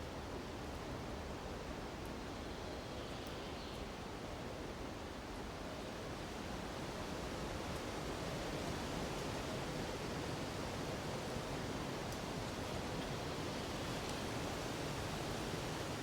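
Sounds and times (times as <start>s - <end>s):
wind through treetops: 0.0s - 16.0s.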